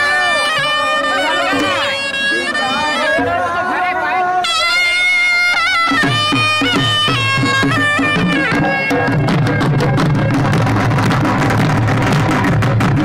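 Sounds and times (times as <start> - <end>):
kettle drums and barrel drum: 0.0 - 3.6, 4.4 - 13.0
reed pipe melody: 0.0 - 13.0.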